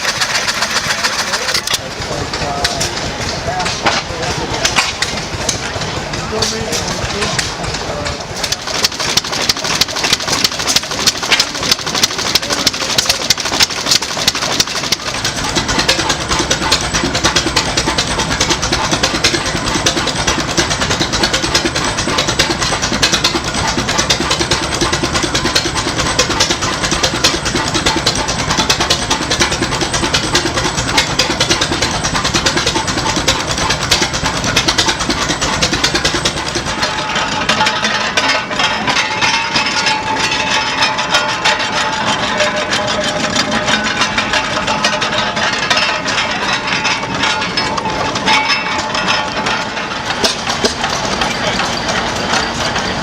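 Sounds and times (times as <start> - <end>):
antique engines exhaust beats: 0.0 - 53.0.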